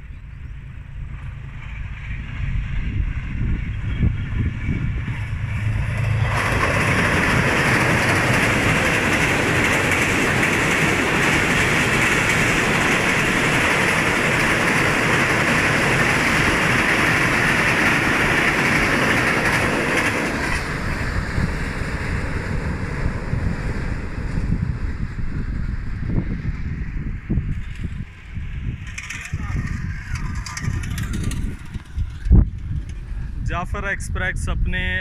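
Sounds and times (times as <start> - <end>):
train rushing over rails: 0.0 - 35.0.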